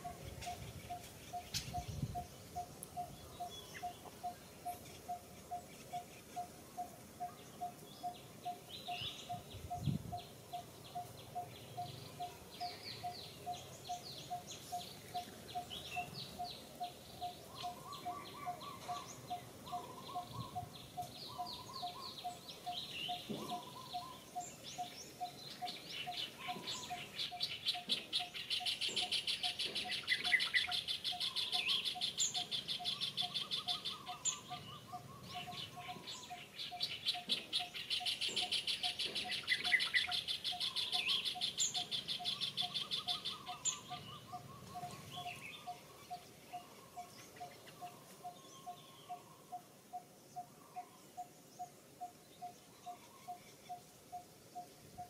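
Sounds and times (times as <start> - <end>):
wild birds chirping: 0.0 - 55.0.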